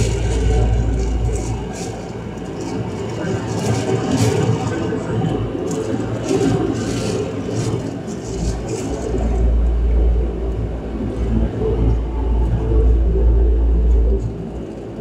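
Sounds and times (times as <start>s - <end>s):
deep rumble: 0.0s - 15.0s
turboprop engine drone: 0.0s - 15.0s.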